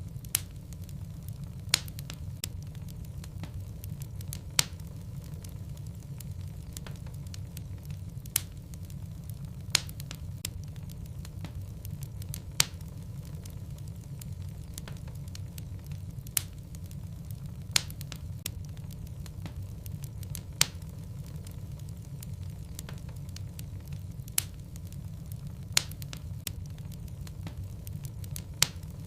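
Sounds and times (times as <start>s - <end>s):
fire rumbling in fireplace: 0.0s - 29.0s
wood crackling and popping: 0.0s - 29.0s.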